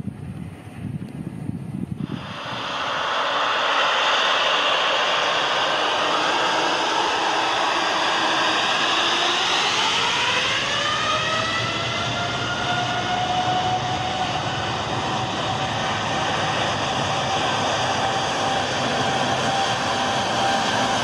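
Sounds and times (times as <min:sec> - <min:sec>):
jet engines spooling up: 0:01.9 - 0:21.0.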